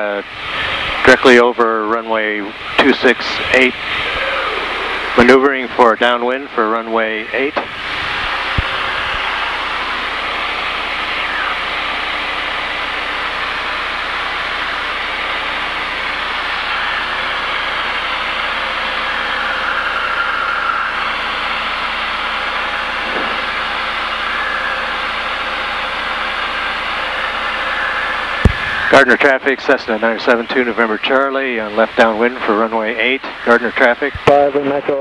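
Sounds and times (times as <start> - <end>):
aircraft engine and propeller drone: 0.0 - 35.0.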